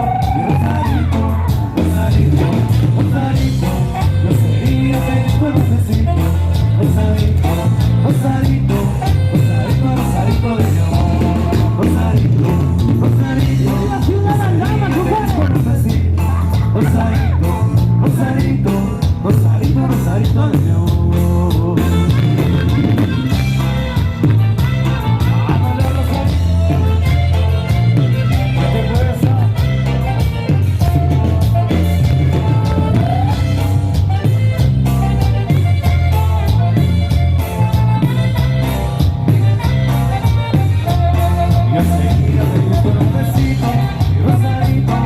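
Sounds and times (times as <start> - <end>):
heavy bass line: 0.0 - 45.0
live band playing cumbia: 0.0 - 45.0
person singing: 0.0 - 45.0.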